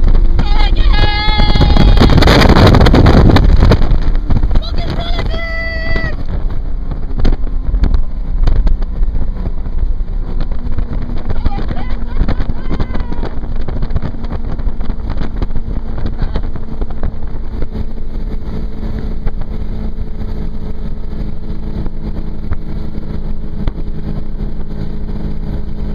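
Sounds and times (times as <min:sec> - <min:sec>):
powerboat engine running: 0:00.0 - 0:25.9
rush of wind and water: 0:00.0 - 0:25.9.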